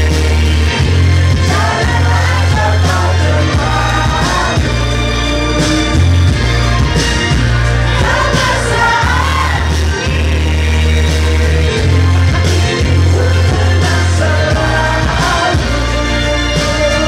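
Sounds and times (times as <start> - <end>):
group singing along: 0.0 - 17.0
karaoke pop song: 0.0 - 17.0.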